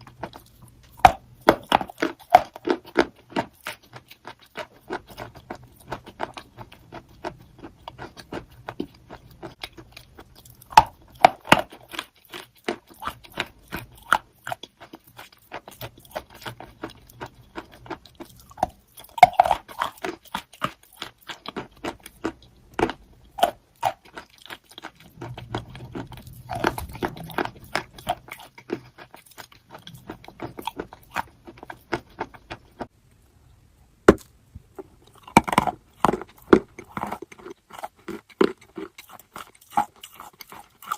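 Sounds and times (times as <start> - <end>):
person chewing crunchy chalk: 0.0 - 32.9, 34.1 - 40.9.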